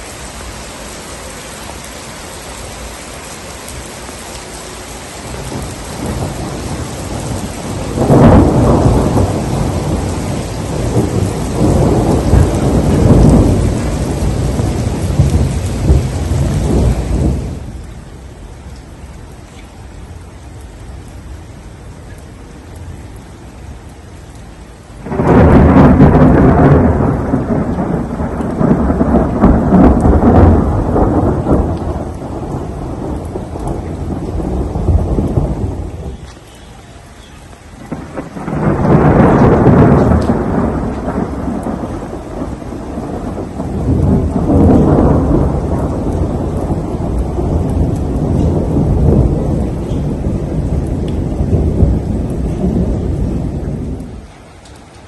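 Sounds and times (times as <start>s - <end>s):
thunder rumbling: 0.0s - 18.6s, 23.8s - 55.0s
rain falling: 0.0s - 55.0s.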